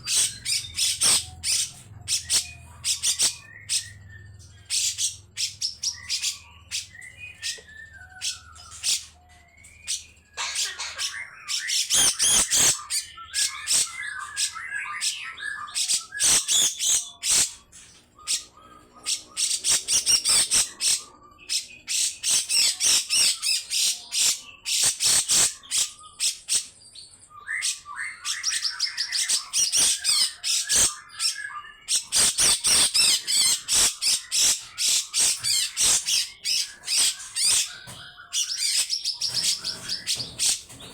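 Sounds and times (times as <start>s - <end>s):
bird harsh rasping calls: 0.0s - 7.2s, 10.4s - 26.7s, 27.6s - 40.9s.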